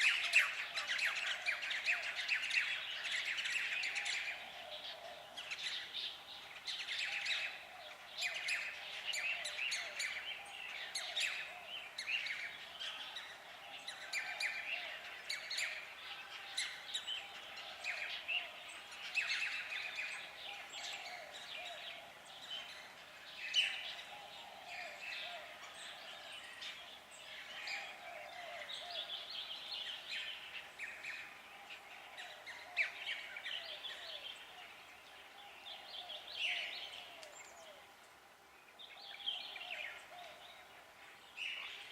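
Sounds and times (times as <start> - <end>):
woodland birds singing: 0.0 - 41.9.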